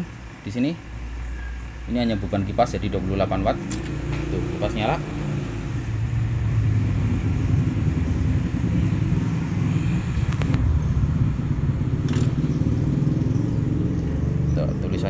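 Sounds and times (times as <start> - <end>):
steady low rumble: 2.4 - 14.6.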